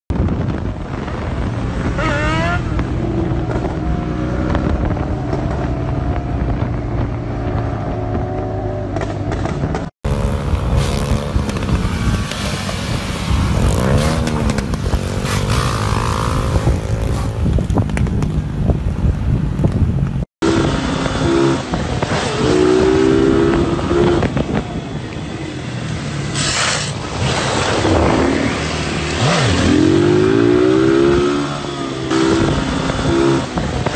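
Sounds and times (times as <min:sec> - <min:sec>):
motorcycle engines revving: 0:00.2 - 0:33.9.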